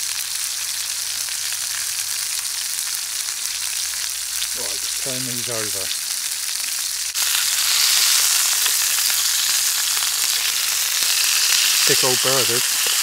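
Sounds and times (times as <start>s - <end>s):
burgers sizzling in a frying pan: 0.0s - 13.0s.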